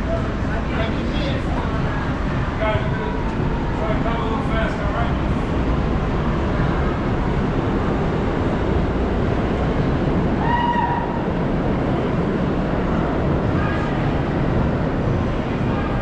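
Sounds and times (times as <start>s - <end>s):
subway train rumbling and rattling: 0.0s - 16.0s.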